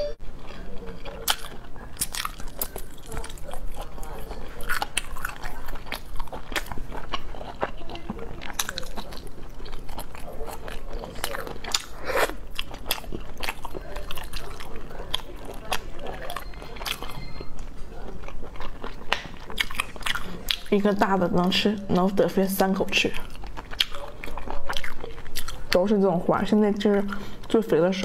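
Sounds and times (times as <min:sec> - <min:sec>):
wet chewing and sucking: 0:00.4 - 0:21.0, 0:22.9 - 0:25.8.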